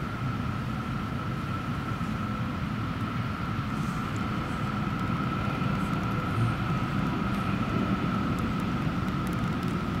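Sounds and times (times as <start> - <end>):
road traffic: 0.0 - 10.0
tram rumble: 0.0 - 10.0.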